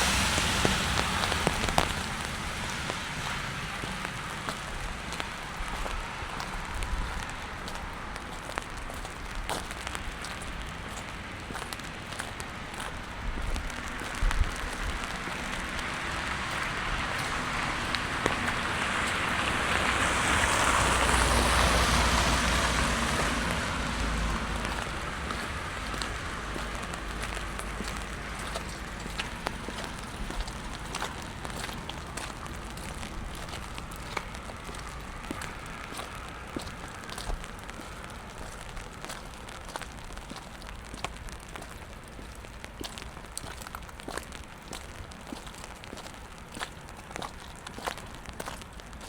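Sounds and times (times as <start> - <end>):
car passing on wet street: 0.0 - 49.0
sharp drips and taps: 0.0 - 49.0
steady rain: 0.0 - 49.0.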